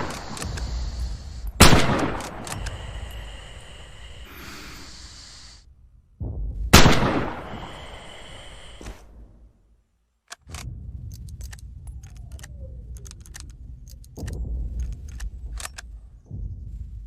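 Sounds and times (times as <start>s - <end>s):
low rumble: 0.0s - 9.9s, 10.5s - 17.0s.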